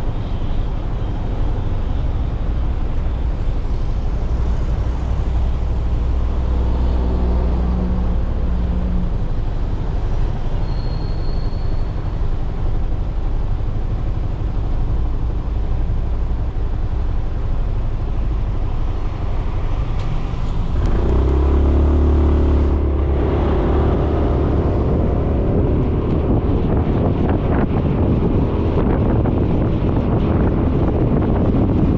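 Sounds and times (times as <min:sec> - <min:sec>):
road noise: 0:00.0 - 0:31.9.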